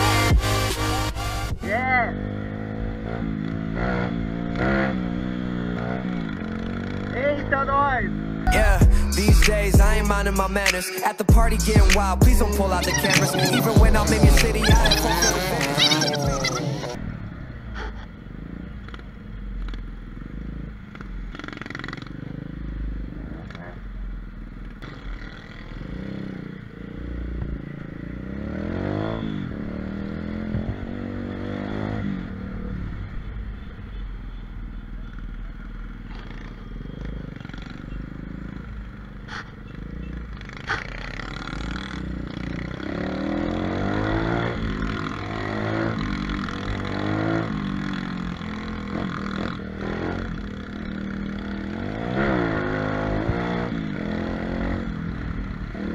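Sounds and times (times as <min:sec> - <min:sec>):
pit bike engine revving: 0:00.0 - 0:33.4, 0:36.0 - 0:55.9.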